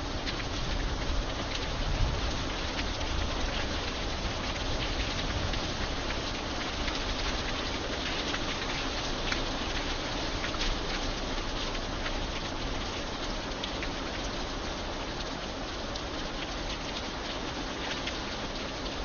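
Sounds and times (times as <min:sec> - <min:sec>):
rain hissing: 0:00.0 - 0:19.0
raindrops striking metal: 0:00.0 - 0:19.0.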